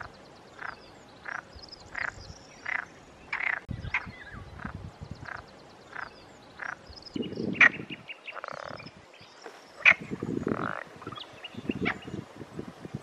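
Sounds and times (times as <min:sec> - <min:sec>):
frogs croaking: 0:00.0 - 0:12.3.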